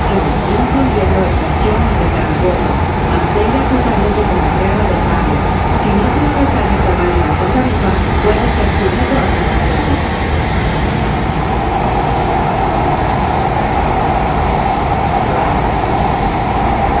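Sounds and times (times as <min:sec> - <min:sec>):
wheels rumbling on track: 0:00.0 - 0:17.0.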